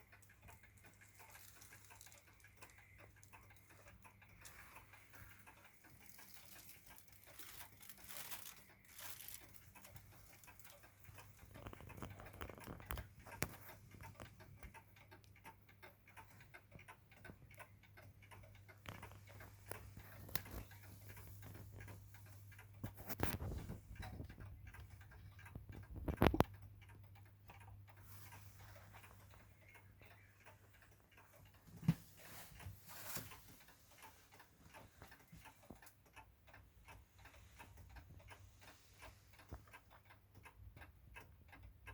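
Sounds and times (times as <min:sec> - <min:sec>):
wall clock ticking: 0:00.0 - 0:41.9.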